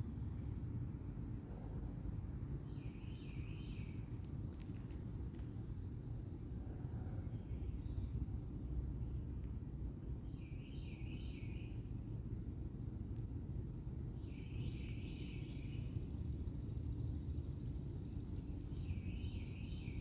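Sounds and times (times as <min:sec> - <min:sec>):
low outdoor rumble: 0:00.0 - 0:20.0
songbirds singing: 0:00.1 - 0:20.0.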